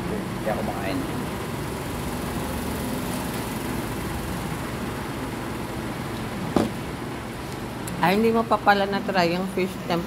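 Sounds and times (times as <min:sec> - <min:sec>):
low room hum and hiss: 0:00.0 - 0:10.0.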